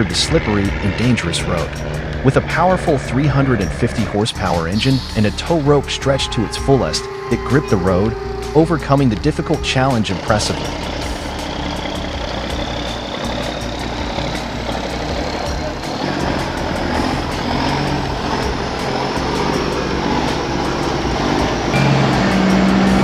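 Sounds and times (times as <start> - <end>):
thin rising whine: 0.0 - 23.0
truck engine working hard: 0.0 - 23.0.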